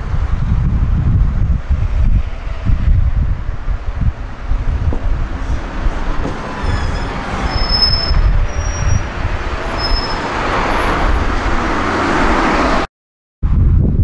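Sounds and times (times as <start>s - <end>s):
wind buffeting microphone: 0.0s - 12.8s, 13.4s - 14.0s
bus driving past: 0.0s - 12.9s.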